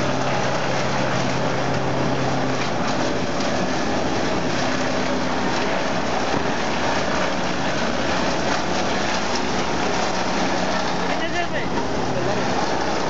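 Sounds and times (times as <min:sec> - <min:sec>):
wood chipper running: 0:00.0 - 0:13.0.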